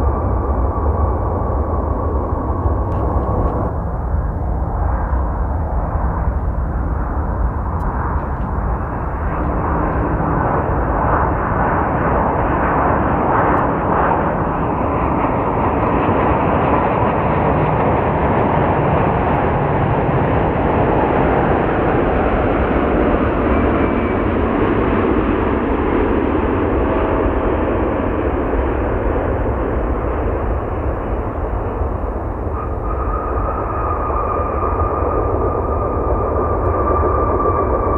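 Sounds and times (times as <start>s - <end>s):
jet airliner passing overhead: 0.0s - 37.9s.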